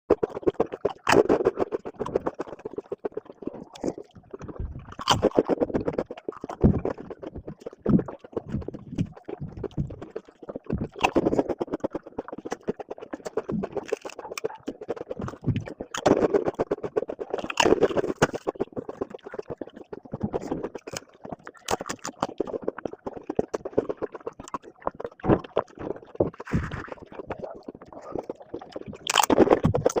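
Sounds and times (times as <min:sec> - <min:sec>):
wet chewing: 0:00.1 - 0:30.0.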